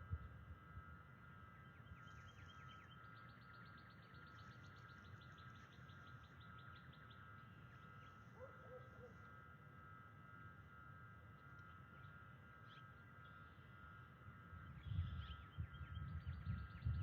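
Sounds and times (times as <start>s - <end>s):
faint hum: 0.0s - 17.0s
songbird trill: 0.0s - 17.0s.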